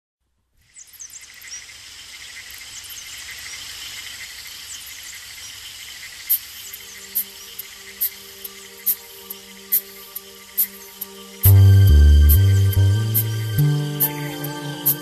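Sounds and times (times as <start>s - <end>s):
insects chirring: 0.6s - 15.0s.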